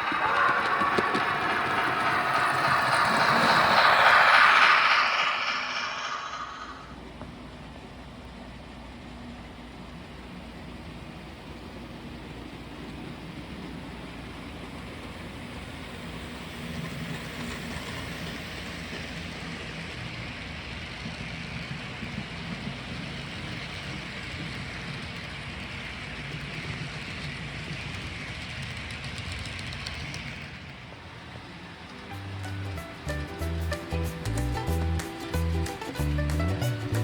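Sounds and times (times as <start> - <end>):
model train whirring on track: 0.0 - 37.0.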